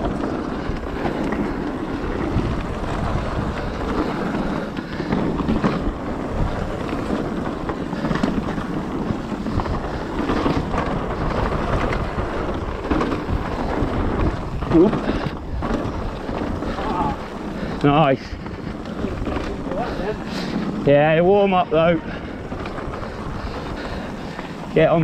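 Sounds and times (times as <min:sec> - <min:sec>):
bike rattling over bumps: 0:00.0 - 0:25.0
bike tyres rolling on trail: 0:00.0 - 0:25.0
wind rushing over microphone: 0:00.0 - 0:25.0.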